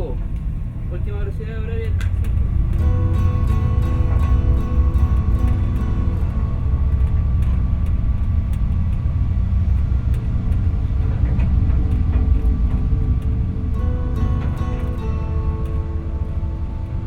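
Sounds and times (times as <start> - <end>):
faint steady tones: 0.0 - 17.0
low rumble: 0.0 - 17.0.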